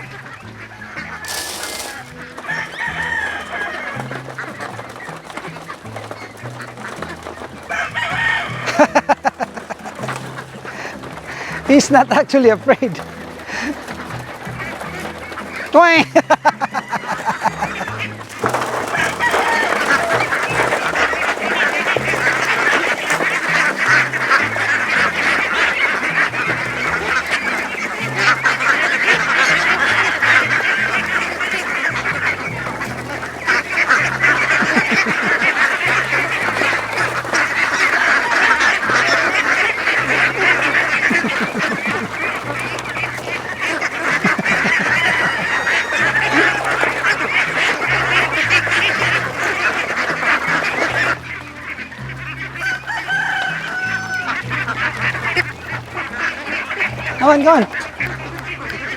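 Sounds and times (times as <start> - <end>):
ducks quacking: 0.0 - 58.9.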